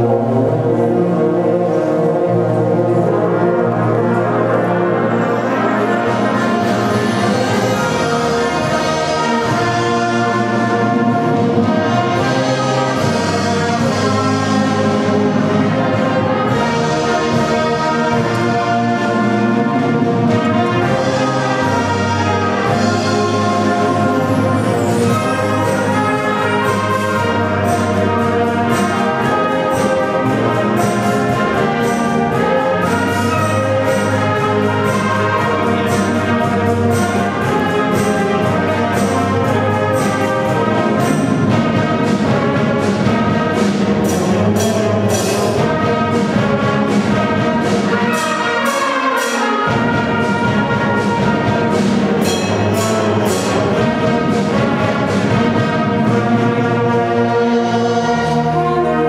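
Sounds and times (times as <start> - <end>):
wind band playing: 0.0 - 59.0
percussion beat: 5.4 - 58.6.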